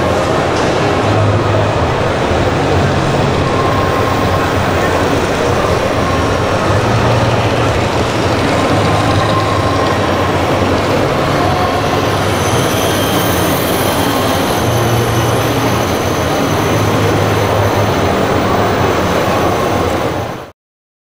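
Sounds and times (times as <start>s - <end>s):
exhibition hall noise: 0.0s - 20.5s
model truck mechanical running hum: 0.0s - 20.5s.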